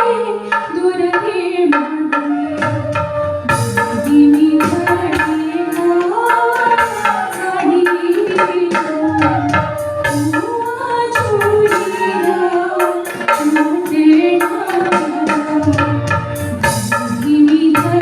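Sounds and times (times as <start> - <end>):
folk melody: 0.0 - 18.0.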